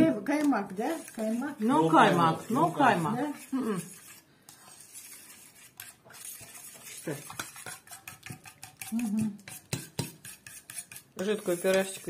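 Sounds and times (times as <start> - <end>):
fork whisking in metal bowl: 0.0 - 12.0.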